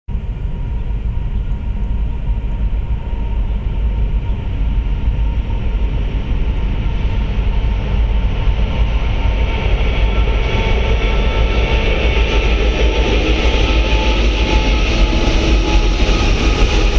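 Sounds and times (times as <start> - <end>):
diesel locomotive rumble: 0.1 - 16.9
train wheel and rail noise: 0.1 - 16.9.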